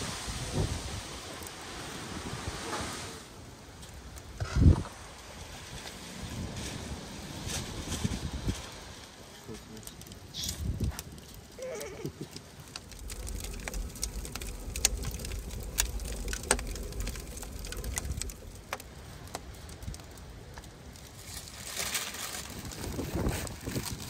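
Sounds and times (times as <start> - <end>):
wood fire crackling and popping: 0.0 - 2.8, 3.4 - 24.0
low fire rumble: 0.0 - 24.0.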